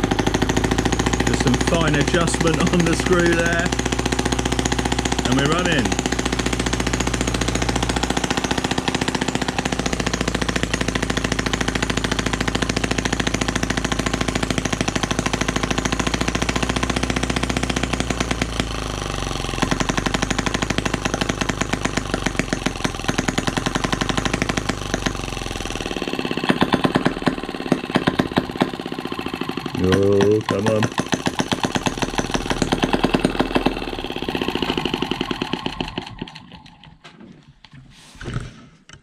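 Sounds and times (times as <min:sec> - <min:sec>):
small petrol engine running fast: 0:00.0 - 0:37.0.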